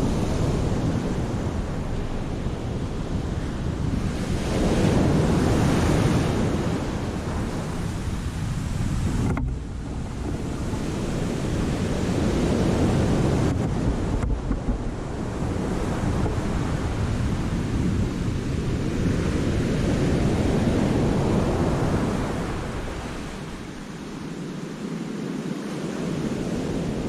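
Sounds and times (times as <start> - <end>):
sea waves breaking over rocks: 0.0 - 27.0
wind rumbling on microphone: 0.0 - 27.0.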